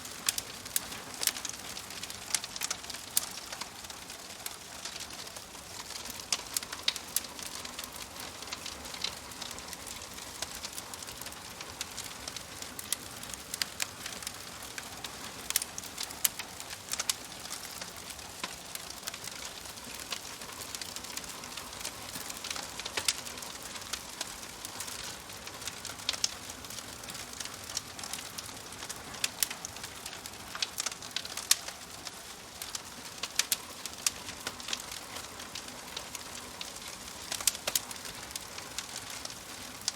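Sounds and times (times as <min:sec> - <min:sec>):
soft hiss of fire: 0:00.0 - 0:39.9
wood fire crackling: 0:00.0 - 0:39.9.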